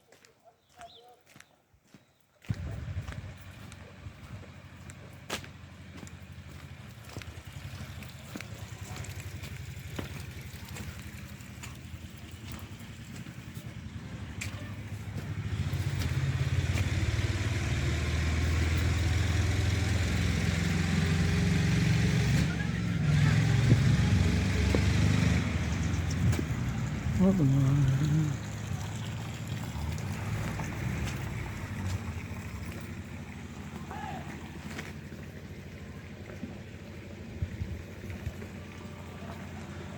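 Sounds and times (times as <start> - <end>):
vehicle engine running: 2.5 - 39.9.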